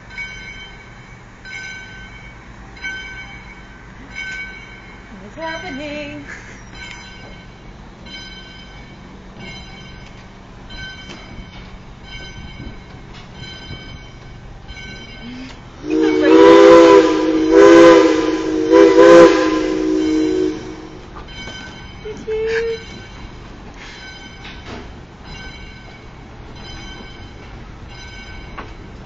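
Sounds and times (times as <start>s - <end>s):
locomotive chime whistle: 0.0s - 28.9s
steam locomotive bell ringing: 0.0s - 29.0s.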